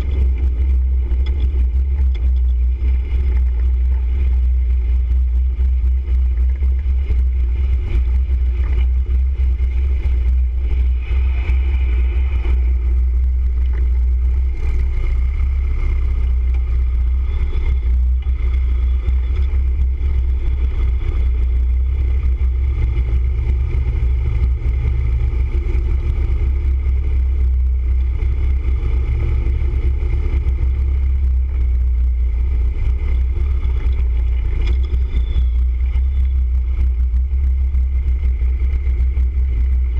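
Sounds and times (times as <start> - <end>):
motorcycle engine and wind rumble: 0.0 - 39.9.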